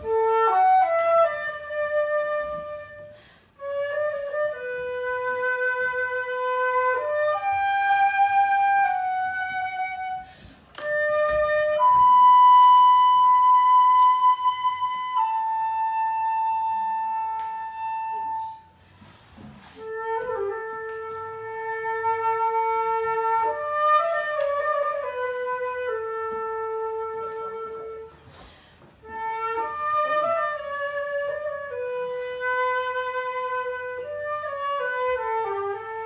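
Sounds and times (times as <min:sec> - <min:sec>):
solo flute melody: 0:00.0 - 0:36.0.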